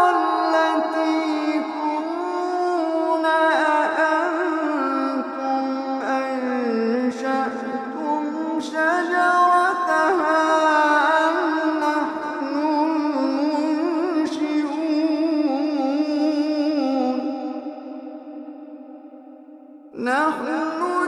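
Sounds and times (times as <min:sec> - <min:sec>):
person reciting melodically: 0:00.0 - 0:17.8, 0:19.9 - 0:21.0.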